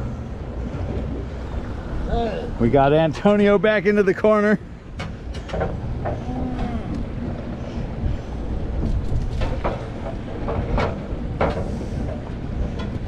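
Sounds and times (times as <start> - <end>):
boat engine rumbling: 0.0 - 13.0
sea noise: 0.0 - 13.0
wind: 0.0 - 13.0.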